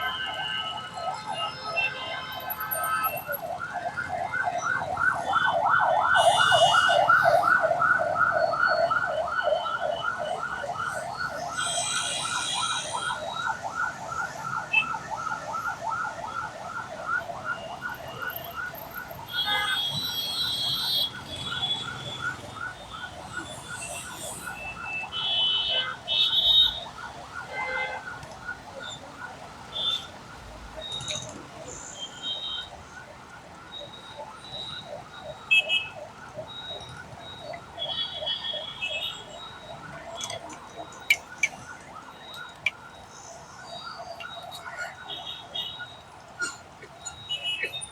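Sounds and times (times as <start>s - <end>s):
road traffic: 0.0s - 47.9s
siren yelping: 0.0s - 47.9s.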